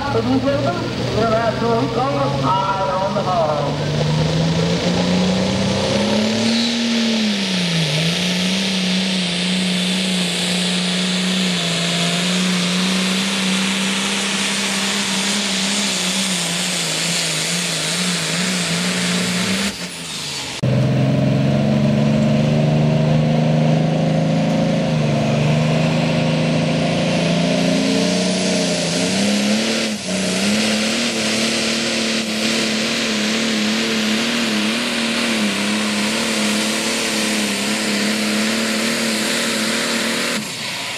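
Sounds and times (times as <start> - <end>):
tractor engine drone: 0.0 - 40.9.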